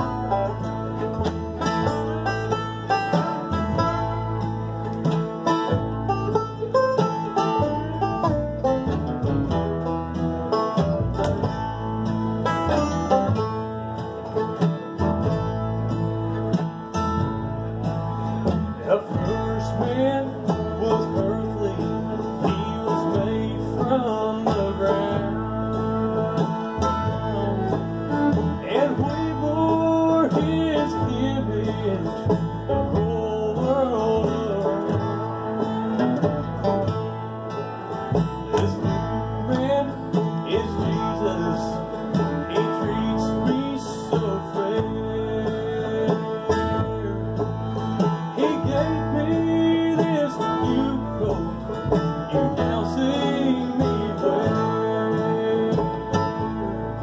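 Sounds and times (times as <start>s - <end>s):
acoustic guitar: 0.0s - 57.0s
banjo: 0.0s - 57.0s
fiddle: 0.0s - 57.0s
upright bass: 0.0s - 57.0s.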